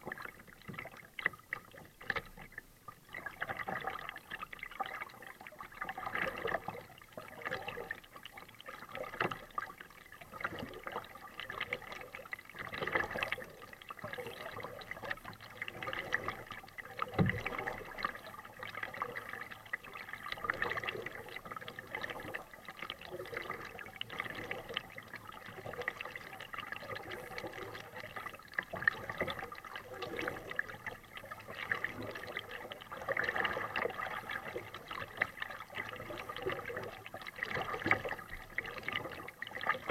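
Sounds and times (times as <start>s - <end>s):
paddle splashing in water: 3.2s - 39.9s.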